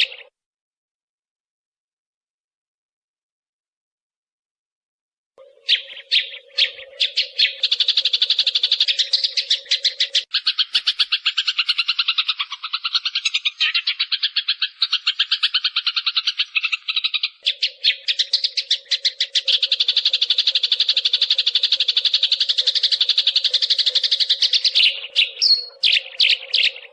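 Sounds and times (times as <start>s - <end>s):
recorded sparrow chirps: 0.0s - 0.3s, 5.4s - 26.9s.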